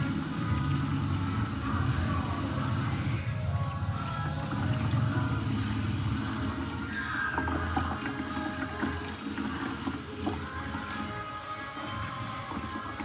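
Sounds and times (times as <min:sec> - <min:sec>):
water splashing in metal sink: 0:00.0 - 0:13.0.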